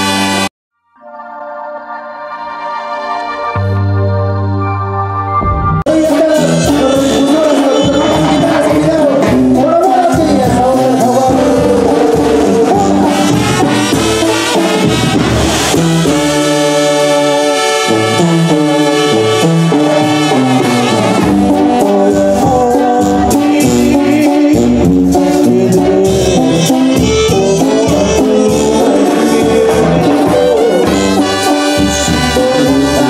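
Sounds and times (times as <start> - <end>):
live band music: 0.0 - 0.5, 1.2 - 33.0
brass sustained chords: 0.0 - 7.8, 12.1 - 22.2, 23.5 - 33.0.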